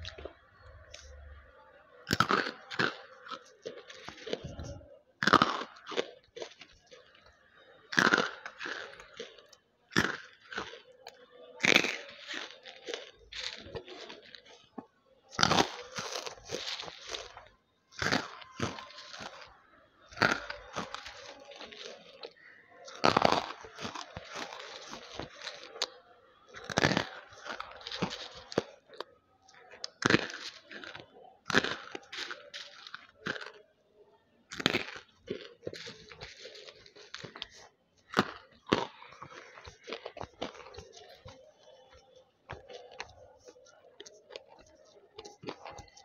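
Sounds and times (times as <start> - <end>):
crunchy lumps chewed: 0.0 - 1.5, 2.1 - 33.6, 34.5 - 46.0
crackly chewing: 0.0 - 46.0.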